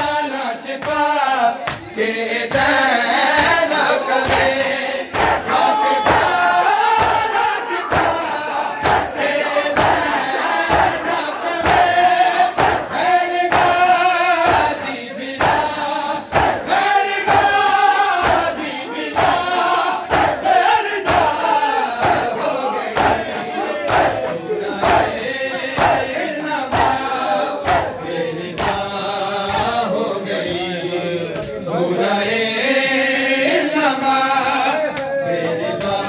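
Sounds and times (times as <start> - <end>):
men singing a lament: 0.0 - 36.0
hands beating chests in unison: 0.6 - 30.7.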